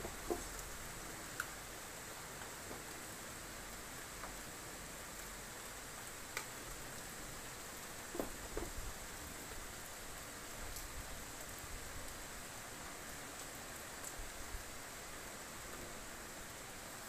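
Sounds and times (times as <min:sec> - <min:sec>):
light rain hissing: 0:00.0 - 0:17.0
raindrops ticking on surfaces: 0:00.0 - 0:17.0.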